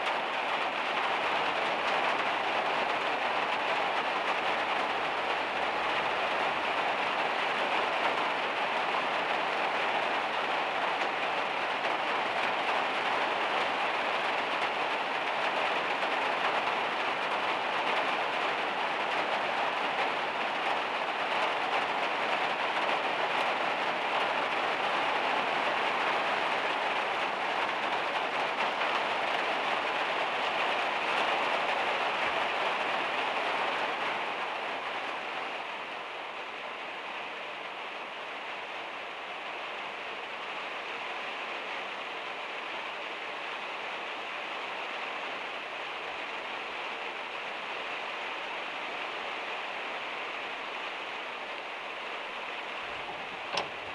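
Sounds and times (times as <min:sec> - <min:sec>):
heavy rain on a metal roof: 0:00.0 - 0:53.9.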